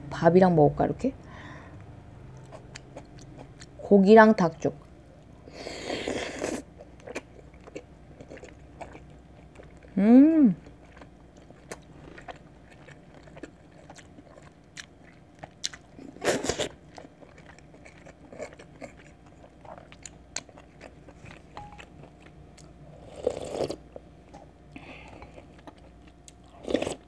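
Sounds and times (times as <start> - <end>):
person chewing food: 1.8 - 3.8, 4.8 - 10.0, 10.6 - 27.0.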